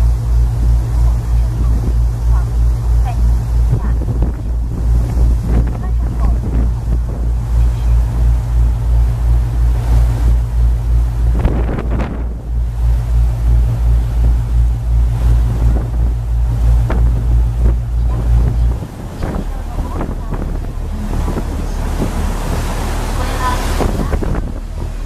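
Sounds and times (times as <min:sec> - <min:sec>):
boat engine low rumble: 0:00.0 - 0:25.0
rush of churning wake: 0:00.0 - 0:25.0
wind buffeting microphone: 0:00.0 - 0:25.0.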